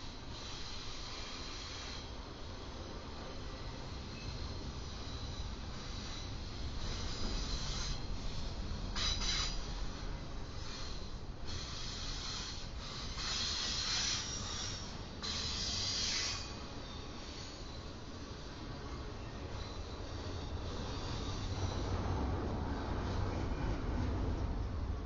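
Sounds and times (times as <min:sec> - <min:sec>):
high-pitched wheel hiss on rails: 0:00.0 - 0:23.5
freight train rumbling past: 0:00.0 - 0:25.0.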